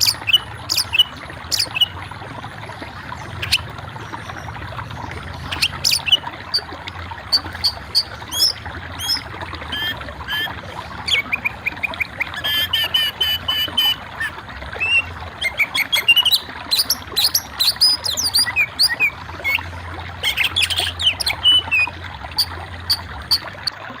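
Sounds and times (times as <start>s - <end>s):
birds chirping: 0.0s - 2.1s, 2.7s - 23.7s.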